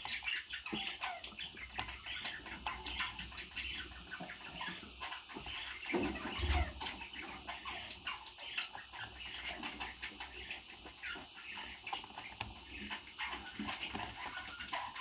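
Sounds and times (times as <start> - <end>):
parrot chirping and squawking: 0.0 - 15.0.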